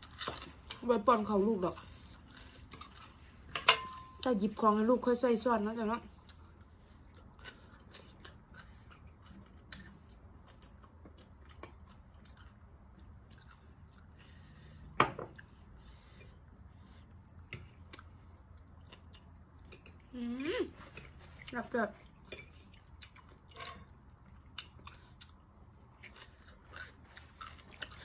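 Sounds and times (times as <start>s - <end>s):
person chewing: 1.8s - 3.5s, 6.2s - 28.0s.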